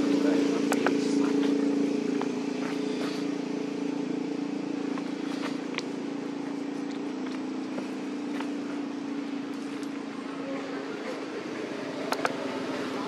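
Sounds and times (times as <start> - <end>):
engine hum: 0.0 - 13.0.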